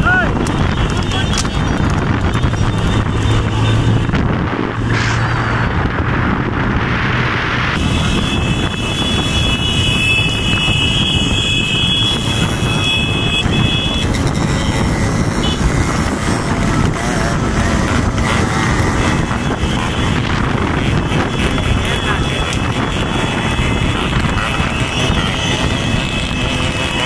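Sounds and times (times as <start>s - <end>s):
motorcycle engines rumbling: 0.0s - 27.0s.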